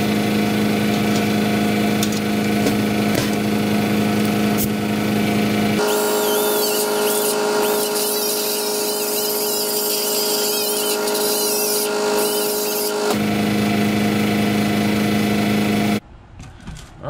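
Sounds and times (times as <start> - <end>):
die grinder whining on sheet metal: 0.0 - 16.0.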